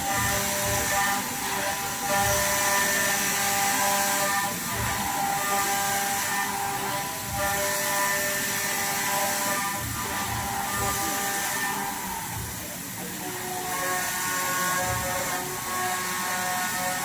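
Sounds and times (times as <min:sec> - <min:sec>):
cutting hiss: 0:00.0 - 0:17.0
machine tool whine: 0:00.0 - 0:17.0.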